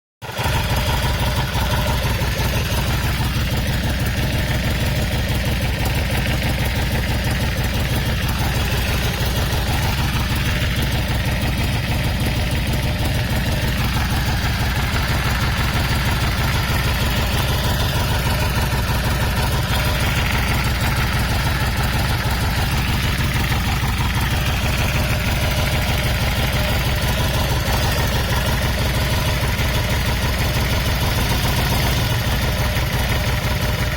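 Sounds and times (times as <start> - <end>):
motorcycle engine idling: 0.2 - 33.9.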